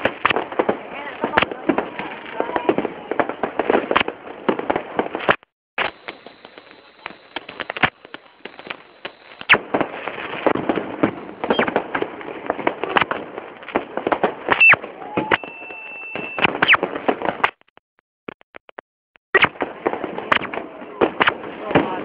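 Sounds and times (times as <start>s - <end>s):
fireworks bangs and crackles: 0.0s - 17.6s, 19.4s - 22.0s.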